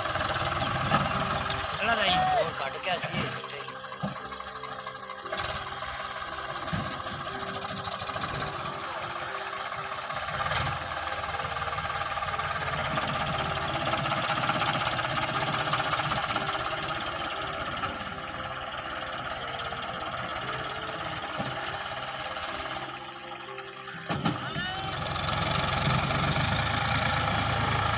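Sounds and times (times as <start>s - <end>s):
tractor diesel engine knocking: 0.0s - 27.9s.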